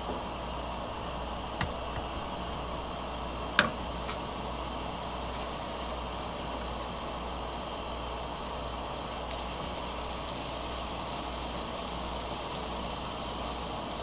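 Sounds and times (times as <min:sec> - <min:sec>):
margarine sizzling in a pan: 0:00.0 - 0:14.0.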